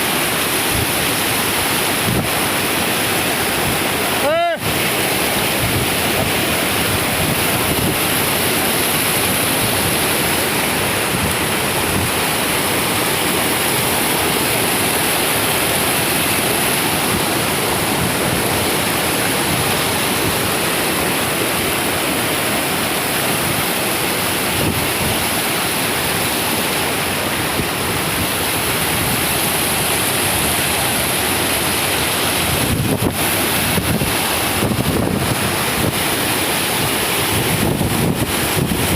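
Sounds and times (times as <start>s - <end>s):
floodwater rushing: 0.0s - 38.9s
wind buffeting microphone: 1.9s - 21.9s, 27.0s - 38.9s.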